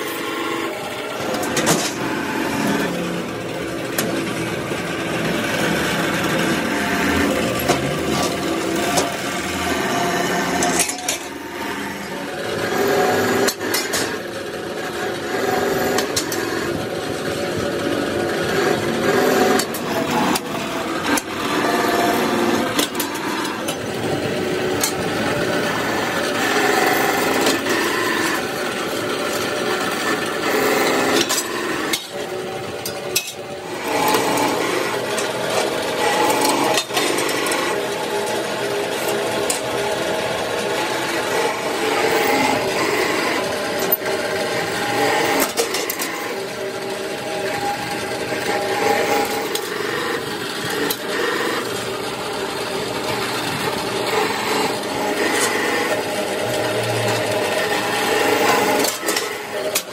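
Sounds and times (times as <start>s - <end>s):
power tools working metal: 0.0s - 59.9s.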